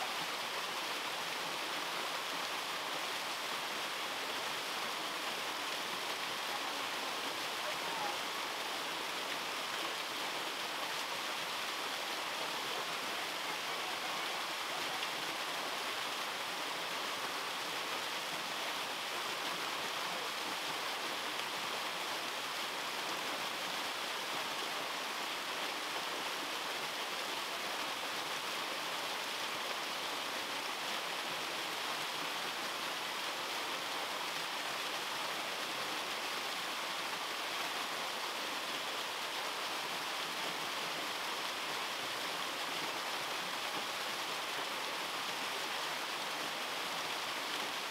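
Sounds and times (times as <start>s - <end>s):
waterfall splashing over rock: 0.0s - 47.9s.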